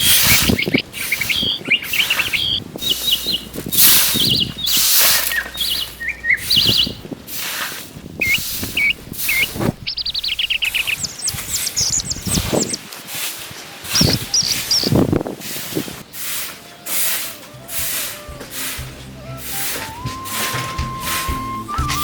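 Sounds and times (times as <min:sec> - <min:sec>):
birds chirping and trilling: 0:00.0 - 0:07.2, 0:08.1 - 0:12.9, 0:13.7 - 0:22.0
swishing rustles: 0:00.0 - 0:09.9, 0:11.3 - 0:22.0.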